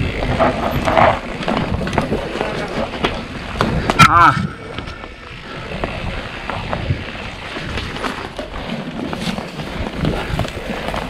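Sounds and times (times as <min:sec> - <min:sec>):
bike knocks and rattles: 0:00.0 - 0:11.0
tyres rolling over dirt and stones: 0:00.0 - 0:11.0
wind noise on microphone: 0:00.0 - 0:11.0.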